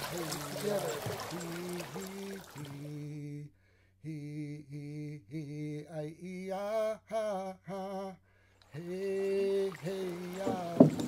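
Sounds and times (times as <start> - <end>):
man singing a slow chant: 0.0 - 11.0.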